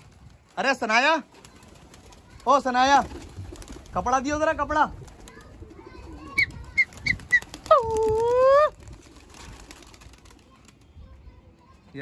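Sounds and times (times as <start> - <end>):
pigeons chirping: 0.0 - 12.0.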